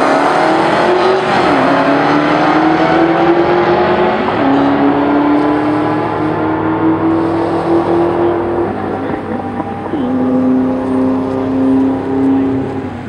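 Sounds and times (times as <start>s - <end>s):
racing car engines accelerating: 0.0s - 13.0s.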